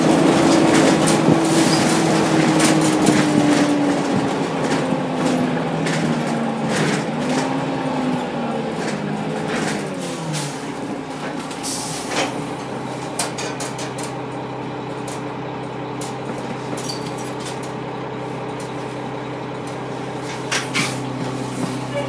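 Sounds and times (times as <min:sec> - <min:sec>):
diesel bus engine idling: 0:00.0 - 0:22.0.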